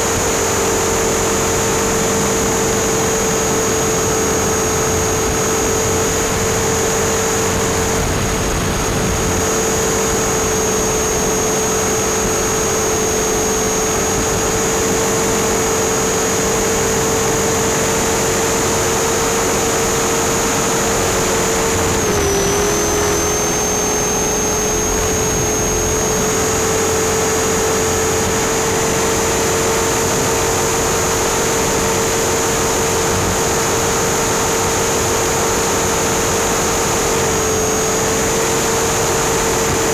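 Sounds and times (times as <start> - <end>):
helicopter motor whine: 0.0 - 39.9
rotor wash noise: 0.0 - 39.9.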